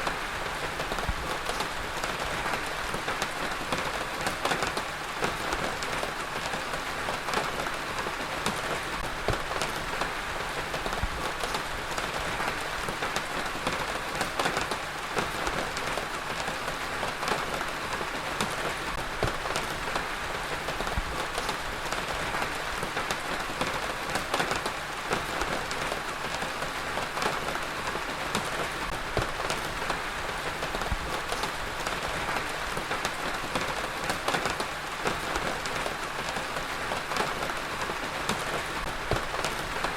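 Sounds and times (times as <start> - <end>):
heavy rain falling on a surface: 0.0 - 39.9.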